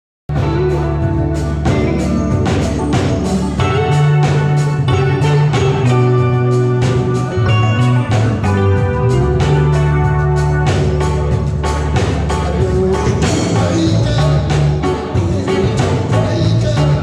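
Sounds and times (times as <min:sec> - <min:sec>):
electric guitar: 0:00.3 - 0:17.0
live band playing: 0:00.3 - 0:17.0
steady drum beat: 0:00.3 - 0:17.0.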